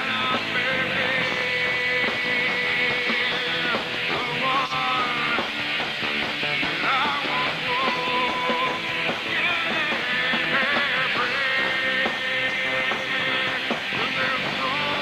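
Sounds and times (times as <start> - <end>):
electric guitar lead line: 0.0 - 15.0
rock band playing: 0.0 - 15.0.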